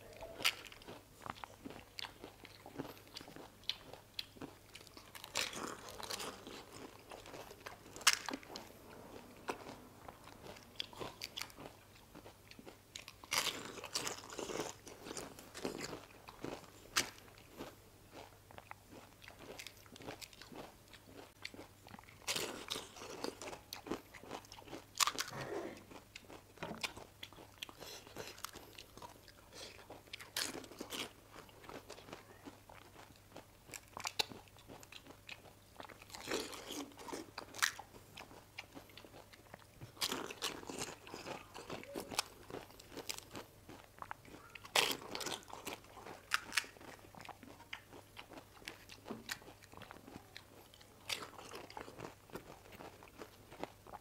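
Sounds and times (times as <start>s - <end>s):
crunchy shells being chewed: 0.2s - 54.0s.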